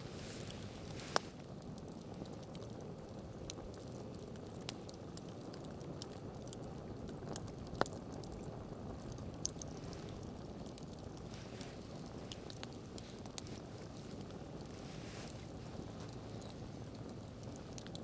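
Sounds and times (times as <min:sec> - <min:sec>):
campfire crackling and popping: 0:00.0 - 0:18.0
low rushing of fire: 0:00.0 - 0:18.0.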